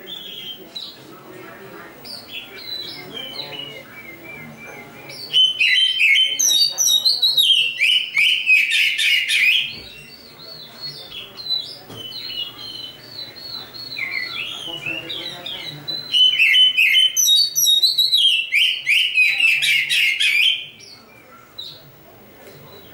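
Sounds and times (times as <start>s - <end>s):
bird singing: 0.0s - 21.9s, 22.5s - 22.9s.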